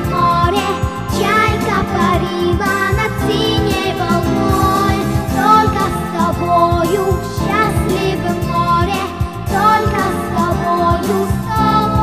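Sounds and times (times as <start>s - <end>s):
backing track: 0.0s - 12.0s
girl singing: 0.0s - 12.0s.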